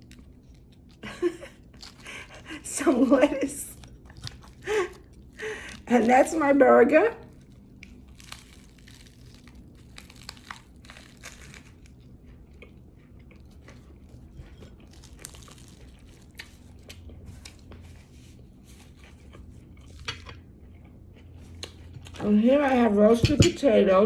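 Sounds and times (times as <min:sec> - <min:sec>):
person chewing with crunching: 0:00.0 - 0:06.1, 0:07.2 - 0:22.2.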